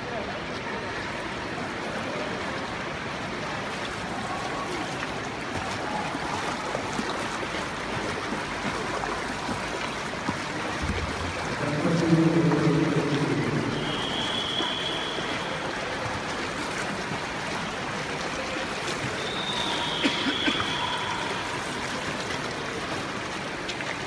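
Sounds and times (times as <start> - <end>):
pool water rushing and lapping: 0.0 - 24.0.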